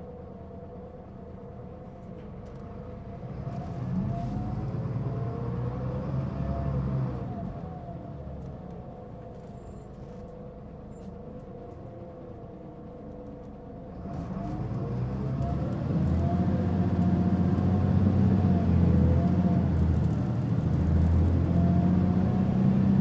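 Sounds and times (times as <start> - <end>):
bus engine accelerating: 1.2 - 23.0.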